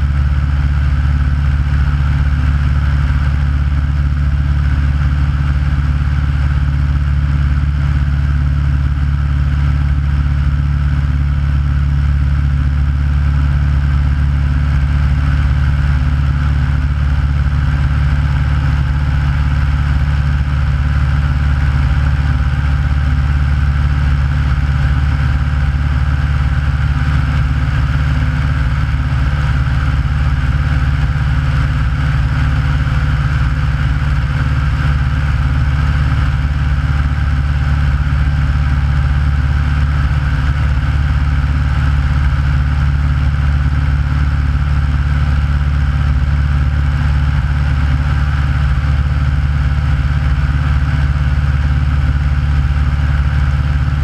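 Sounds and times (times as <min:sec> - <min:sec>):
light plane engine drone: 0:00.0 - 0:54.0.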